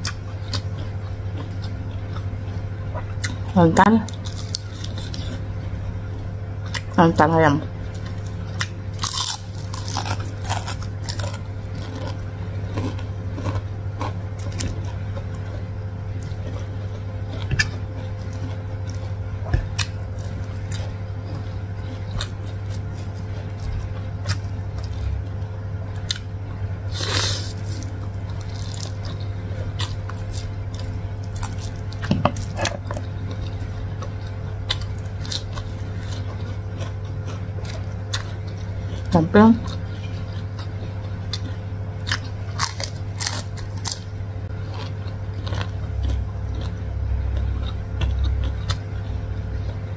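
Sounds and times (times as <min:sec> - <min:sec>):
chewing and biting food: 0:00.0 - 0:05.5, 0:07.9 - 0:49.9
low hum: 0:00.0 - 0:49.9.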